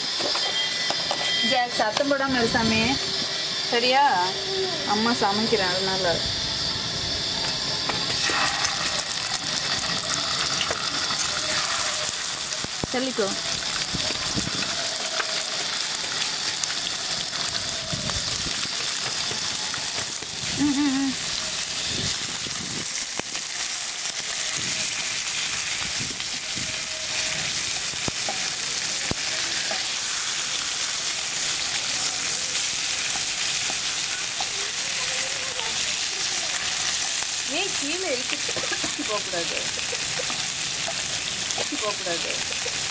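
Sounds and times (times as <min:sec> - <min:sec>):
fish sizzling in hot oil: 0:00.0 - 0:04.3, 0:04.9 - 0:42.9.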